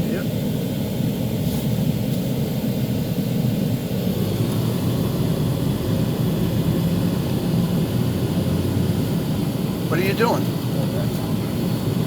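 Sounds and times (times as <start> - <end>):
vehicle engine and tyres on road: 1.2 - 12.0.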